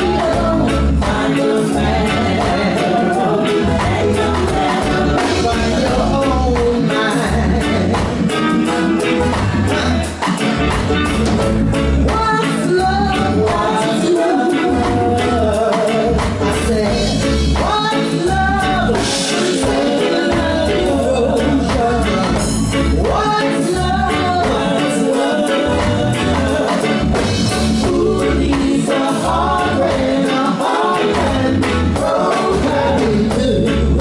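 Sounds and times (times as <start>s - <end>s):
women singing: 0.0s - 8.0s, 12.0s - 22.4s, 23.0s - 34.0s
drums: 0.0s - 34.0s
electric bass: 0.0s - 34.0s.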